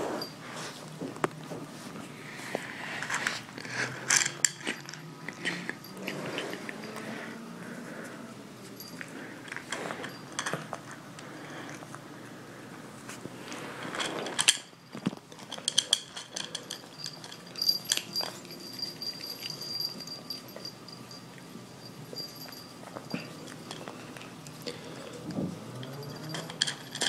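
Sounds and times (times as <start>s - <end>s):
kitten crunching kibble: 0.1s - 27.0s.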